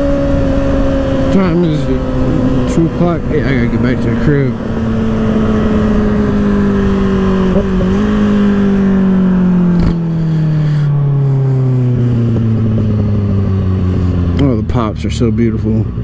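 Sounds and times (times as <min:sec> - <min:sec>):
motorcycle engine drone: 0:00.0 - 0:16.0.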